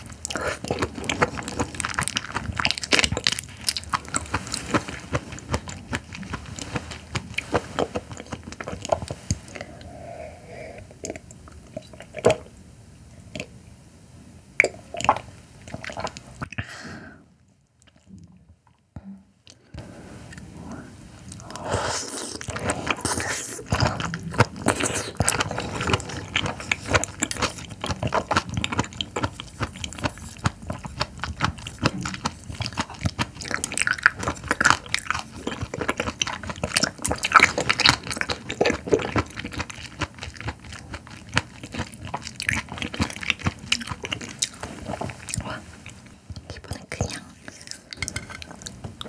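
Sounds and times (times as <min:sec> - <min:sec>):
wet chewing mouth sounds: 0:00.0 - 0:10.0, 0:14.6 - 0:16.6, 0:21.2 - 0:49.0.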